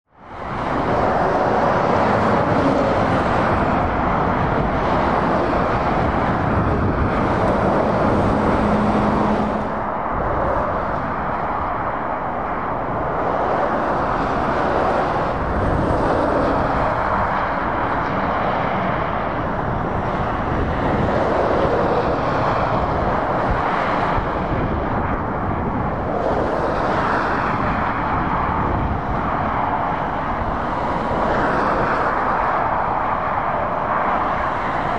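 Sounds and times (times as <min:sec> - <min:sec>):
vehicles passing on motorway: 0:00.1 - 0:34.9.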